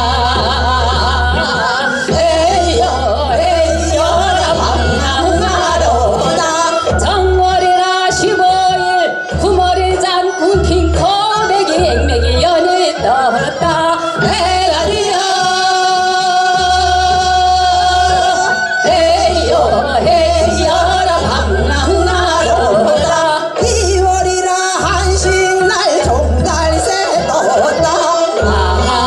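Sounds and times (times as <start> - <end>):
women singing with vibrato: 0.0 - 29.0.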